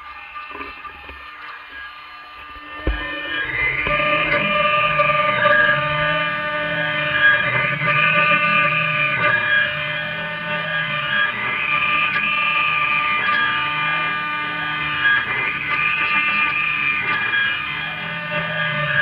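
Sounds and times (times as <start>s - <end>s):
cnc router spindle carving: 0.0s - 19.0s.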